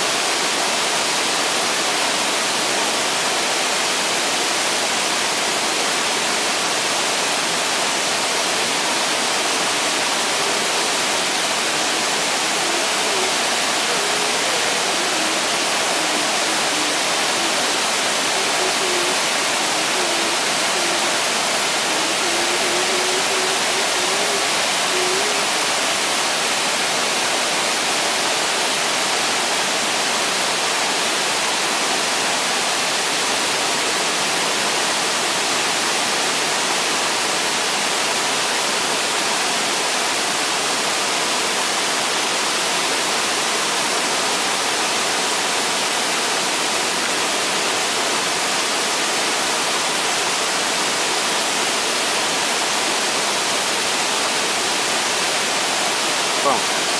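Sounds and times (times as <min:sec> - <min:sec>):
waterfall rushing over rocks: 0:00.0 - 0:56.9.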